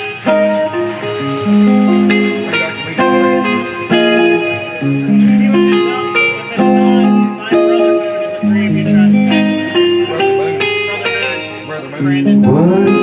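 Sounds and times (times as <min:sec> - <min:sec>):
live band guitar-led instrumental: 0:00.0 - 0:13.0.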